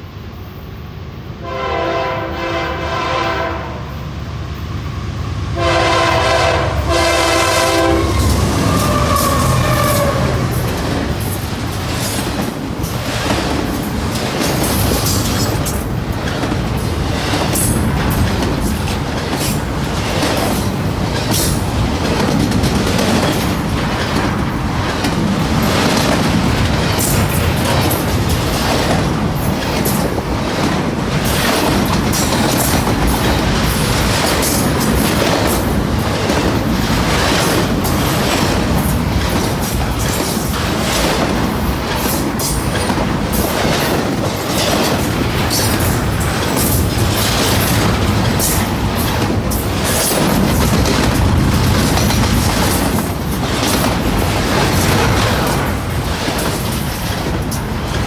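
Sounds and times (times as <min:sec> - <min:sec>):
freight train cars rumbling: 0:00.0 - 0:58.0
steel wheels clacking over rail joints: 0:07.1 - 0:58.0.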